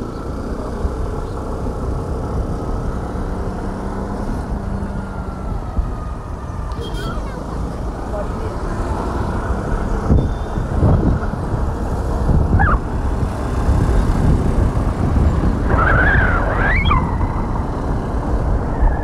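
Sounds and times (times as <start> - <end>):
road and vehicle rumble: 0.0 - 19.0
wind on microphone: 0.0 - 19.0.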